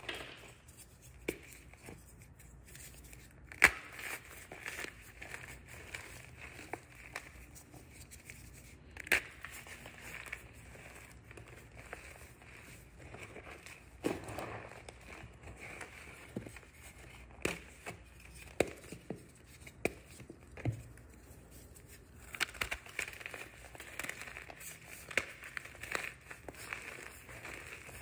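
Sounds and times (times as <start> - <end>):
chalk crunching and crackling: 0.0 - 28.0
sharp chalk cracks: 0.0 - 28.0.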